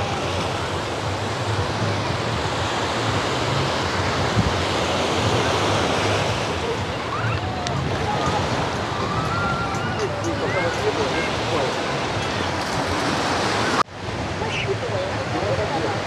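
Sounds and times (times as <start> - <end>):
surf washing onto sand: 0.0 - 16.0
wind rumbling on microphone: 0.0 - 16.0.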